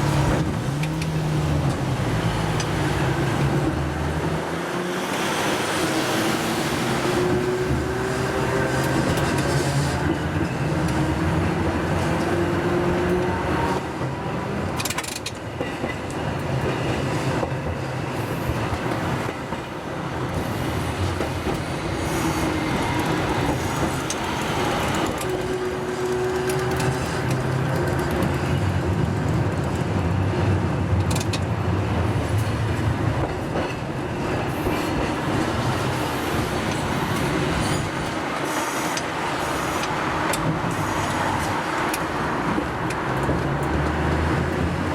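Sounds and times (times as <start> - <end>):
tram rumbling: 0.0 - 44.9
wheels clacking on rails: 0.0 - 44.9.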